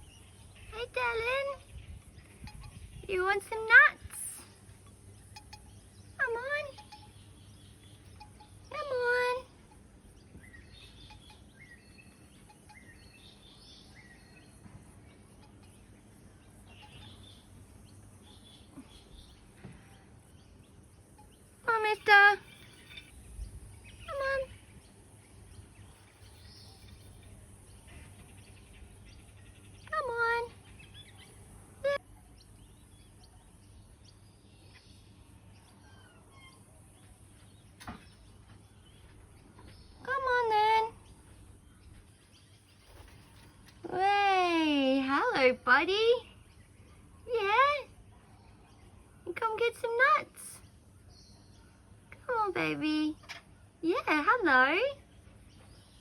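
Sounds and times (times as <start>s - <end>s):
low background rumble: 0.0s - 47.3s
birds chirping: 0.0s - 56.0s
low background hum: 0.0s - 56.0s.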